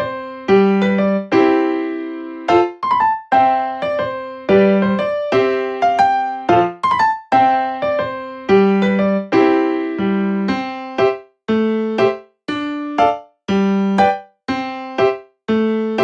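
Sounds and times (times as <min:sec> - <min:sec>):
bouncy piano tune: 0:00.0 - 0:16.0.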